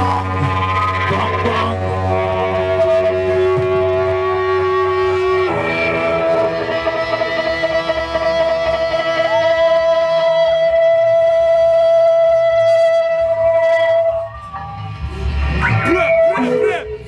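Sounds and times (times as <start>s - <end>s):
guitar sustained note: 0.0s - 17.0s
live band music: 0.0s - 17.0s.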